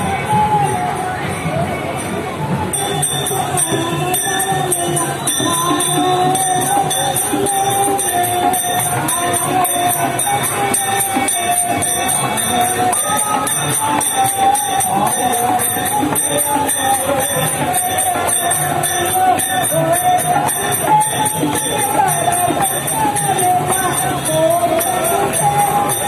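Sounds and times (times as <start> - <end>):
jingling metal percussion: 0.0 - 26.0
wavering melody: 2.7 - 26.0.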